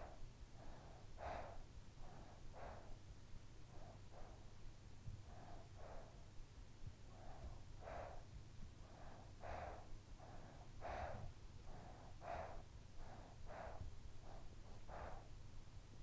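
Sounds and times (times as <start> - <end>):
child breathing softly: 0.0 - 16.0.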